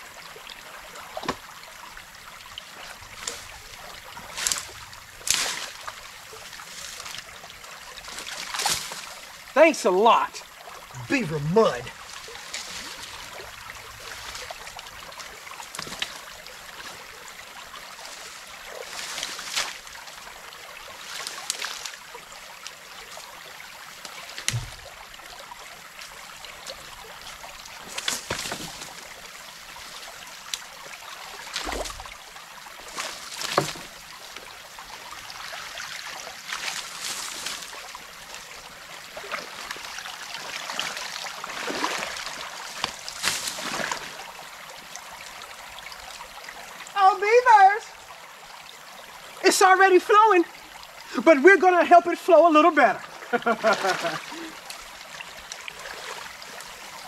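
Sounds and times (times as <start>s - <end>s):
creek water trickling: 0.0s - 57.0s
water splashing and sloshing: 0.0s - 57.0s.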